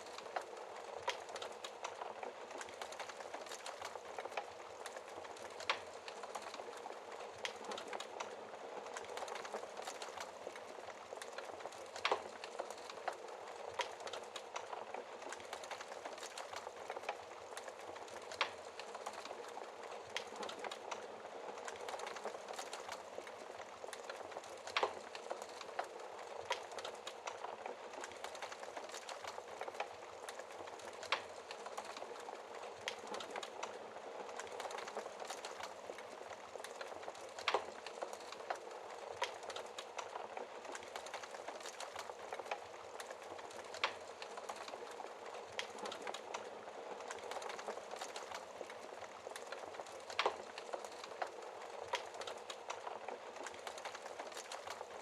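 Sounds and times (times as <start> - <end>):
fire pops: 0.0 - 55.0
wood fire crackling: 0.0 - 55.0.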